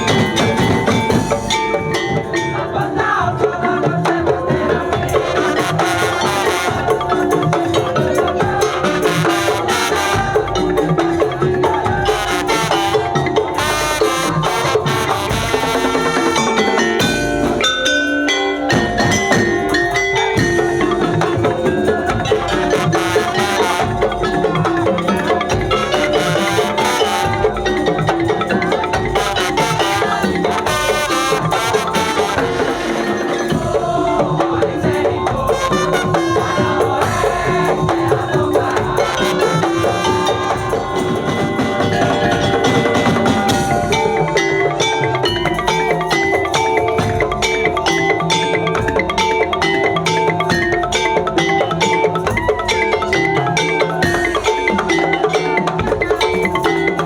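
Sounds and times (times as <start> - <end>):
fast ringing pitched notes: 0.0 - 3.6, 4.5 - 57.0
drums: 0.0 - 57.0.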